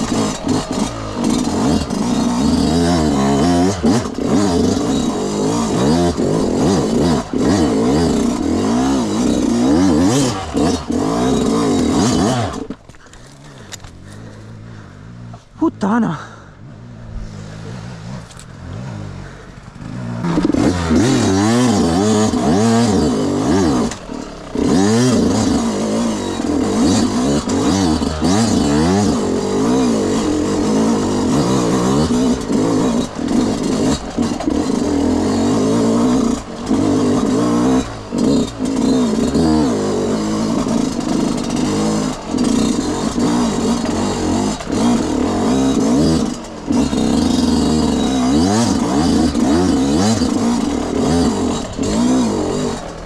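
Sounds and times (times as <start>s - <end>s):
two-stroke motorcycle engine revving: 0.0s - 53.0s.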